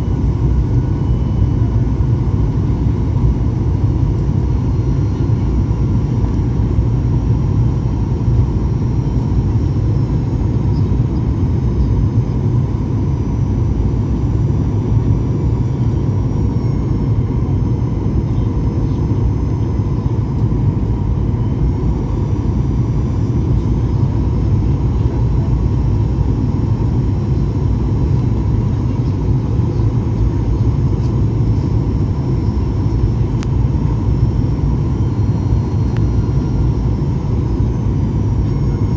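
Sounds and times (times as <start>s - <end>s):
airliner low rumble: 0.0s - 38.9s
faint high whine: 0.0s - 38.9s.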